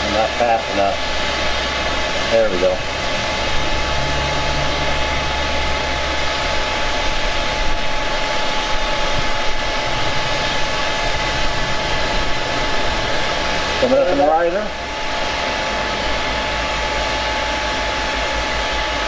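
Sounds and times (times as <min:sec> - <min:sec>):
blower whine: 0:00.0 - 0:19.0
furnace burner roaring: 0:00.0 - 0:19.0.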